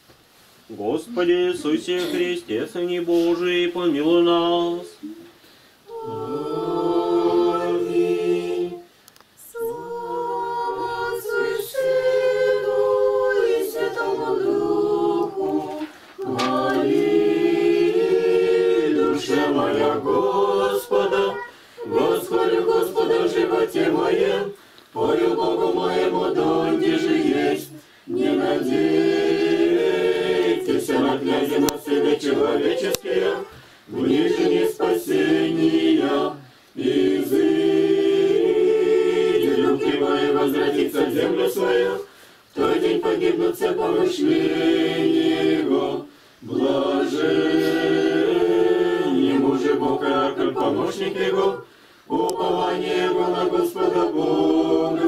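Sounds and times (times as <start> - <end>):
congregation chanting a cappella: 0.7 - 5.0, 5.8 - 55.0.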